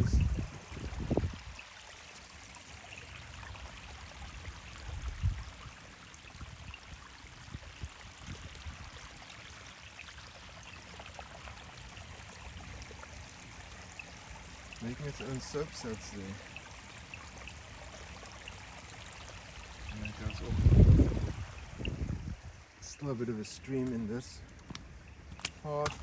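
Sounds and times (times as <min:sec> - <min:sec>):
water stream running: 0:00.0 - 0:26.0.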